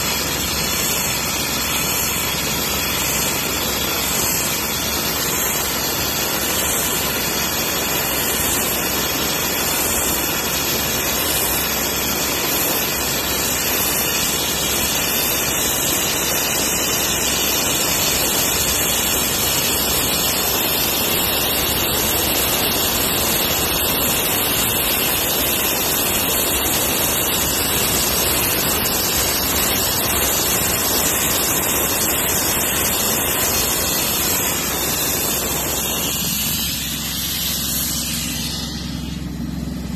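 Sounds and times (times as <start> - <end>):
abrasive blaster hissing: 0.0 - 39.9.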